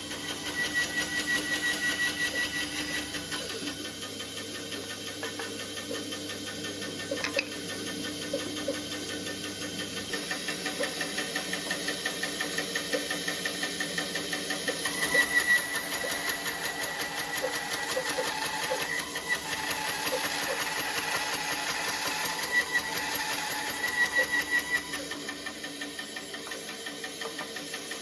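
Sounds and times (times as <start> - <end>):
small power tool running: 0.0 - 28.0.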